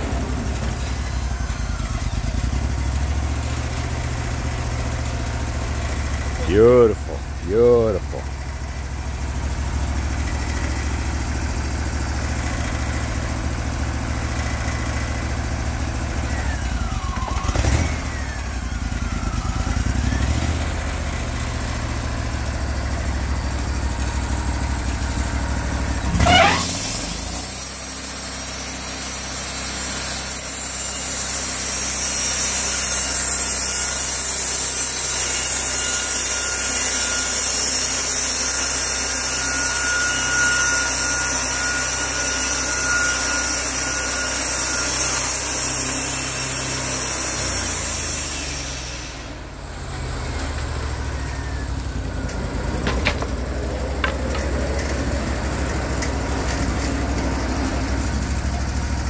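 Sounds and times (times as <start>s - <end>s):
sawmill engine idling and revving: 0.0s - 59.0s.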